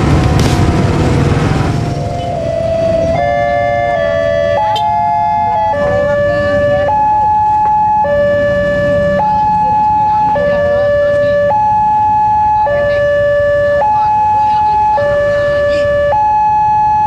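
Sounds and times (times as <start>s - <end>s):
motorbike and traffic engines: 0.0s - 17.0s
two-tone crossing alarm: 2.0s - 17.0s.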